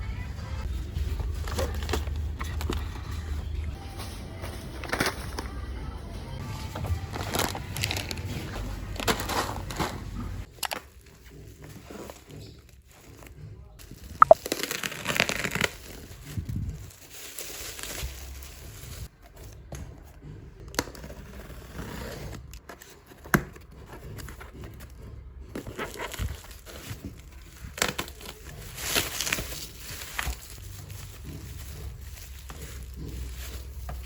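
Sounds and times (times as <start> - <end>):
crinkling and rustling: 0.6 - 34.0.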